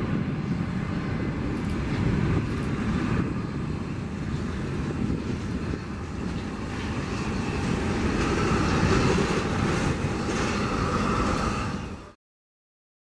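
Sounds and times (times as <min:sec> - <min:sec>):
jet engines roaring with whine: 0:00.0 - 0:12.2.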